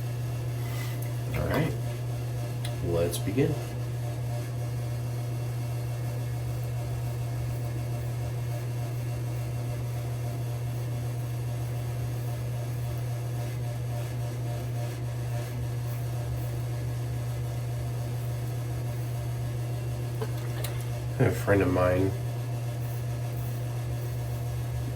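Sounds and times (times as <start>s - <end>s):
low mechanical hum: 0.0s - 24.9s.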